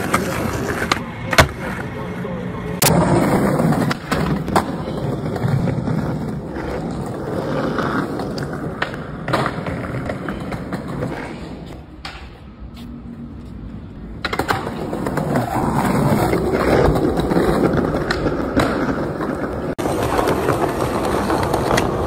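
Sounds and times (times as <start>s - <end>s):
skateboard wheels rolling on concrete: 0.0s - 22.0s.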